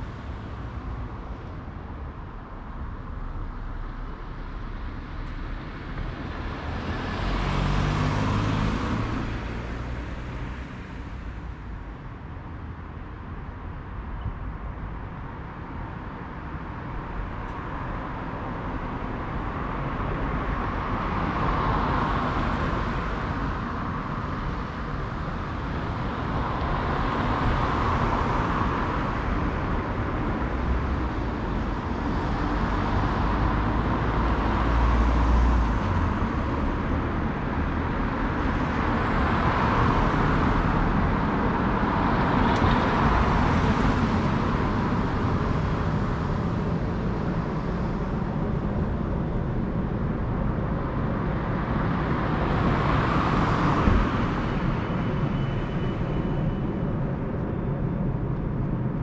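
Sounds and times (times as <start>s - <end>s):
cars passing: 0.0s - 11.9s, 16.8s - 59.0s
traffic hum: 0.0s - 59.0s.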